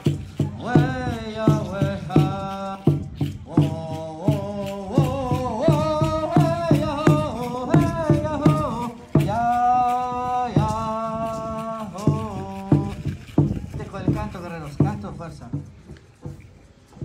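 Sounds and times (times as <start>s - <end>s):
steady drum beat: 0.0s - 17.0s.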